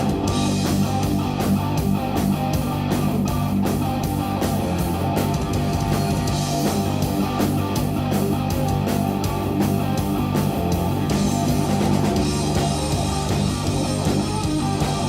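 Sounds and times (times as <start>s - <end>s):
bass line: 0.0s - 15.0s
electric guitar: 0.0s - 15.0s.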